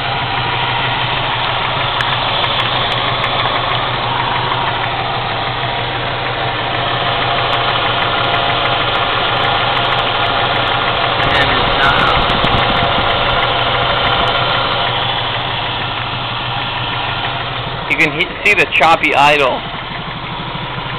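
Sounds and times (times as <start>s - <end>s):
car engine choppy idle: 0.0s - 20.9s.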